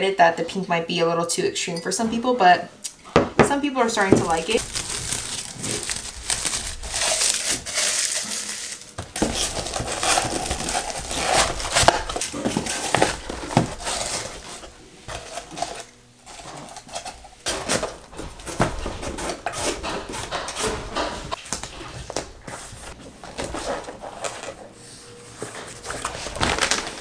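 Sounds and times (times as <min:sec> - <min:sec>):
packing paper rustling: 0:04.1 - 0:24.6, 0:25.4 - 0:27.0
cardboard flaps folding: 0:04.2 - 0:24.6, 0:25.4 - 0:27.0.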